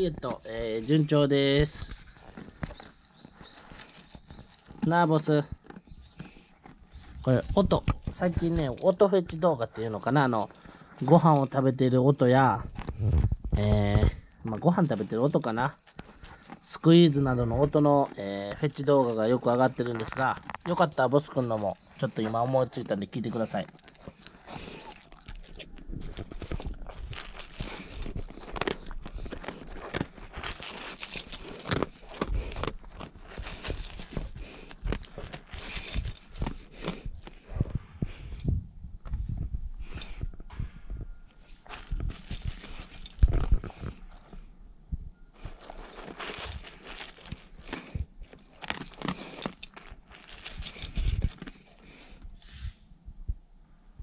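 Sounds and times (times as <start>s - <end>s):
dog crunching dry kibble: 0.0s - 38.4s, 41.4s - 44.5s, 45.4s - 52.2s.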